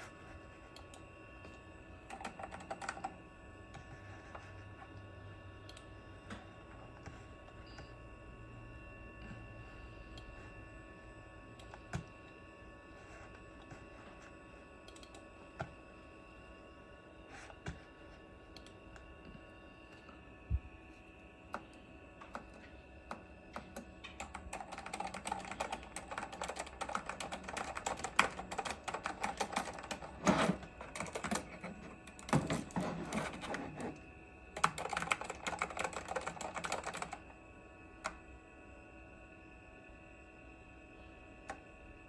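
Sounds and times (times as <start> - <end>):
faint hum: 0.0 - 42.0.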